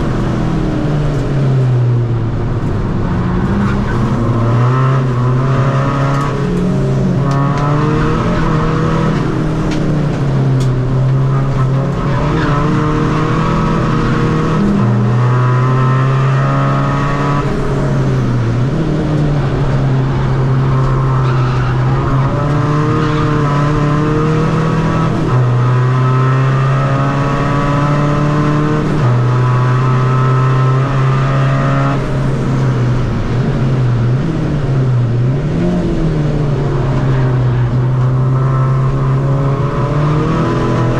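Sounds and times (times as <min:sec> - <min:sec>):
diesel car engine revving: 0:00.0 - 0:40.9.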